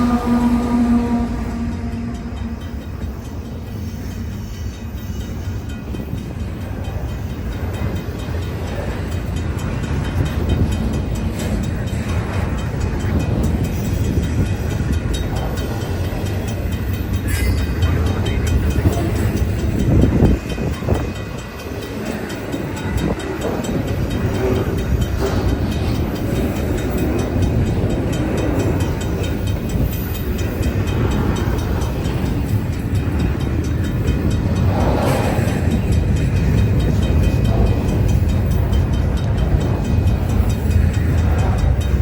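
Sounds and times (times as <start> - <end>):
freight train rumbling on rails: 0.0 - 42.0.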